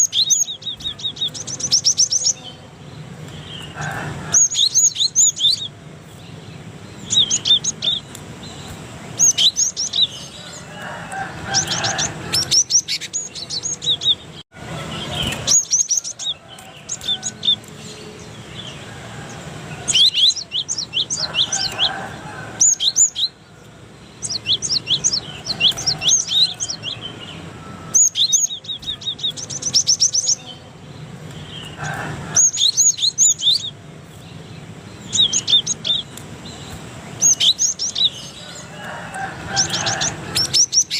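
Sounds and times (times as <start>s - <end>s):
bird chirping rapidly: 0.0s - 2.7s, 3.4s - 10.6s, 11.4s - 18.8s, 19.8s - 23.4s, 24.1s - 30.7s, 31.4s - 38.7s.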